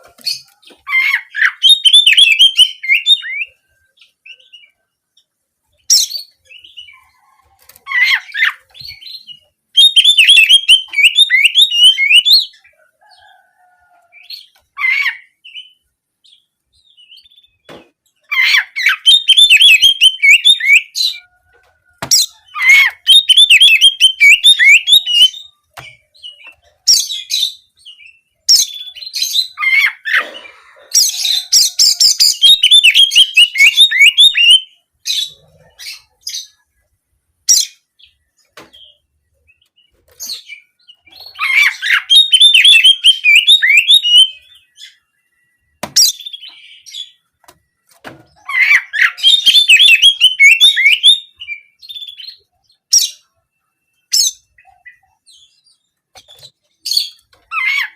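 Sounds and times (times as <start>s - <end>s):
magpie-robin chirping and trilling: 0.2s - 4.8s, 5.8s - 7.1s, 7.7s - 12.7s, 14.1s - 17.6s, 18.2s - 21.2s, 22.1s - 30.3s, 30.9s - 36.6s, 38.8s - 45.1s, 48.3s - 57.9s.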